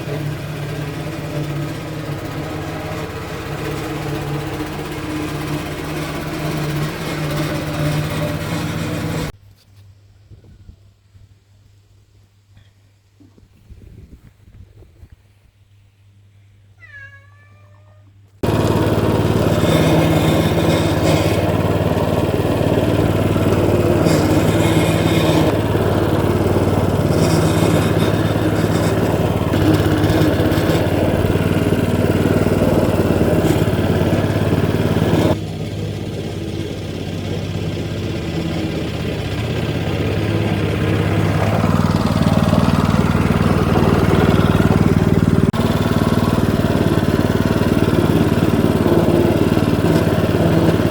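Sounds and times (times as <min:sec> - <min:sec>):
lawn scarifier engine running: 0:00.0 - 0:09.4, 0:18.4 - 0:50.9.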